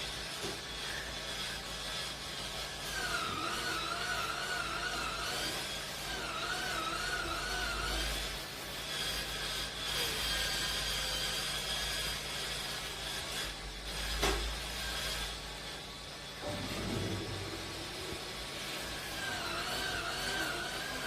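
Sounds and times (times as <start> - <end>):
electric brush motor whine: 0.0 - 21.0.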